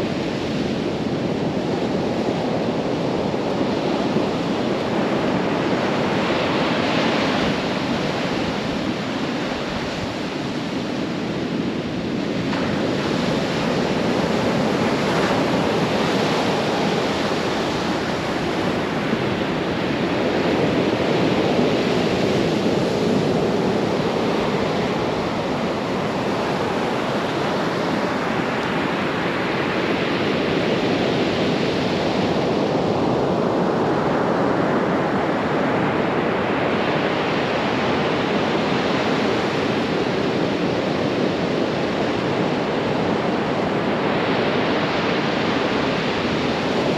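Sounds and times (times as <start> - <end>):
surf breaking on beach: 0.0 - 46.9
wind buffeting microphone: 0.0 - 46.9.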